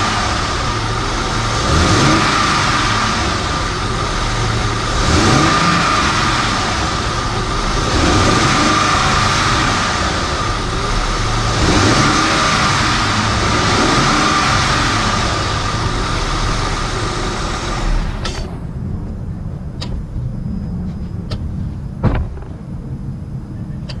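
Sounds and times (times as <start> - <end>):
car engine running: 0.0 - 24.0
high-pitched whine: 0.0 - 24.0.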